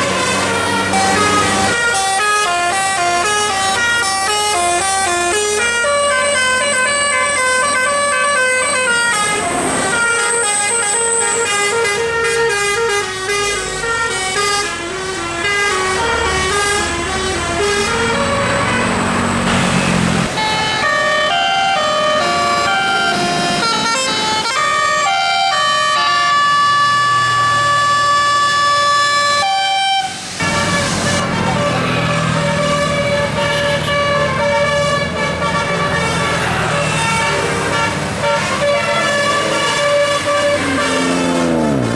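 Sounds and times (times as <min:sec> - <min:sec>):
bus musical air horn tune: 0:00.0 - 0:41.9.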